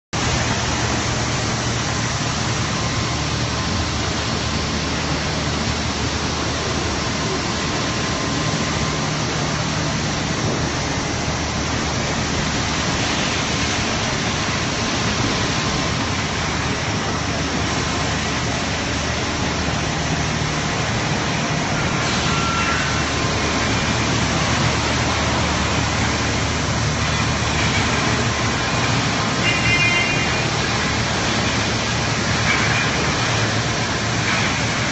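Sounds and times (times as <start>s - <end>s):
machinery rushing noise: 0.2s - 34.9s.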